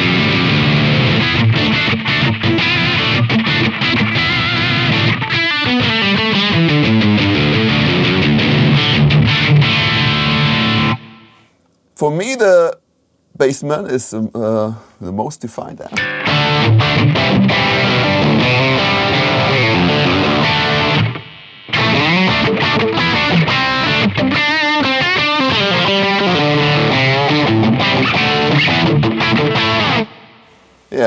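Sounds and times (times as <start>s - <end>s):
overdriven electric guitar: 0.0s - 11.5s, 15.9s - 30.8s.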